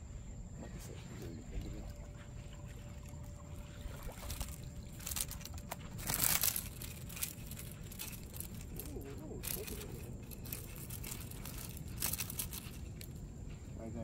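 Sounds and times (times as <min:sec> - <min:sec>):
fish splashing in water: 0:01.4 - 0:13.1.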